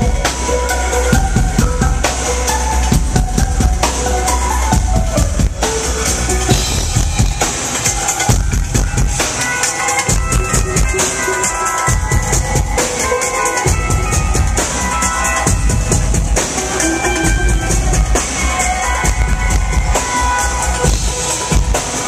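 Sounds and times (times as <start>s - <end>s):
drum kit beat: 0.0s - 22.0s
electronic dance music: 0.0s - 22.0s.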